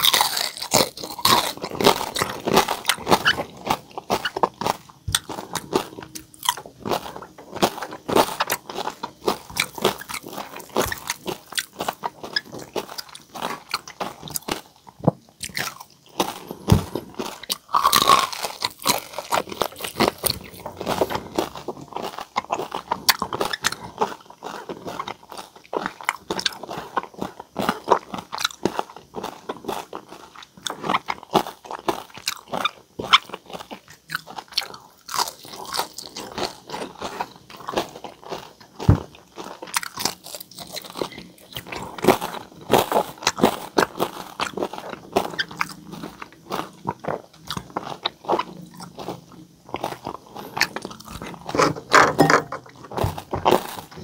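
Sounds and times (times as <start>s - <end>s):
chewing crispy food: 0.0s - 54.0s.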